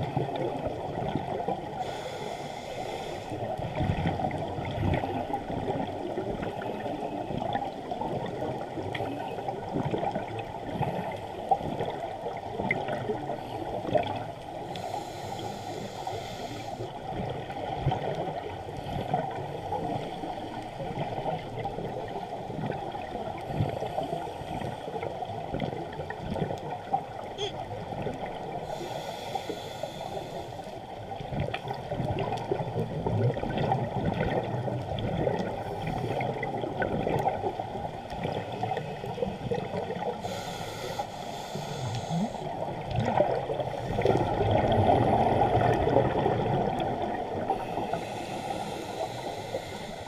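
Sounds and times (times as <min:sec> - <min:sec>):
underwater bubbling crackle: 0:00.0 - 0:50.0.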